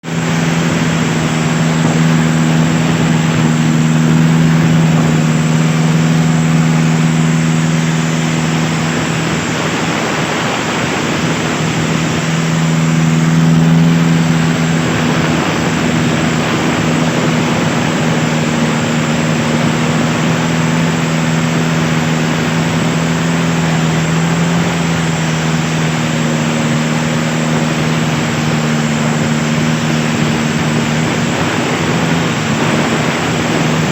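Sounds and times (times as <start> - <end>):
boat engine running: 0.0 - 33.9
rushing water: 0.0 - 33.9
wind noise: 0.0 - 33.9.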